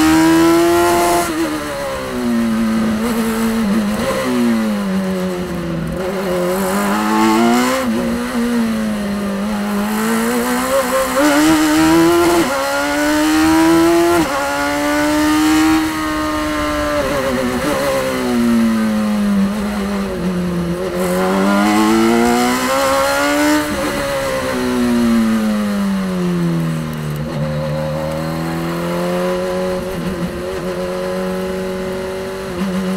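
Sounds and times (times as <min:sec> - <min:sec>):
race car engine at full power: 0:00.0 - 0:32.9.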